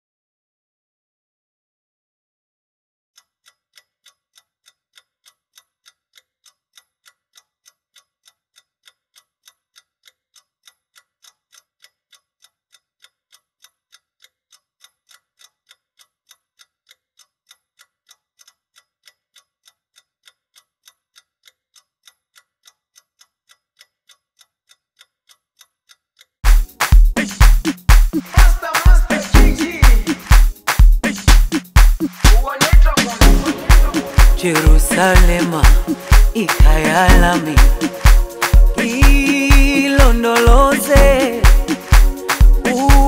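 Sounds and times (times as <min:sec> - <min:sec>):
clock ticking: 0:03.2 - 0:43.0.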